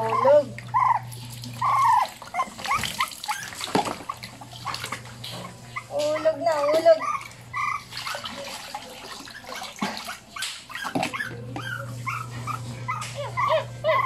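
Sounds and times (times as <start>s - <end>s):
puppy whimpering and yelping: 0.0s - 8.6s, 9.2s - 14.0s
water splashing: 0.0s - 11.4s.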